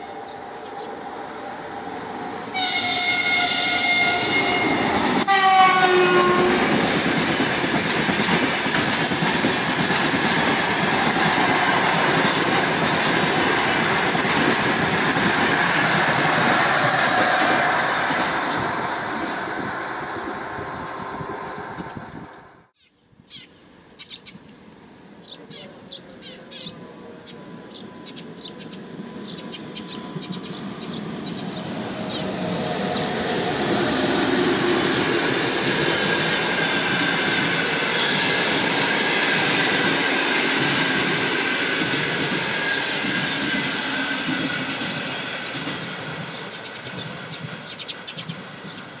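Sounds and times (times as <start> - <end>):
train passing on rails: 0.0 - 22.8, 24.6 - 49.0.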